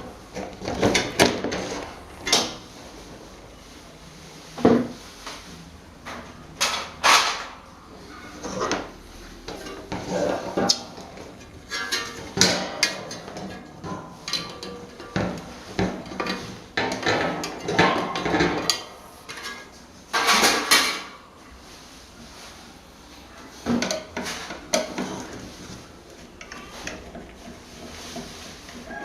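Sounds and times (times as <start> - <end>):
metal fan parts clanking: 0.0 - 3.1, 6.0 - 21.3, 23.5 - 29.0.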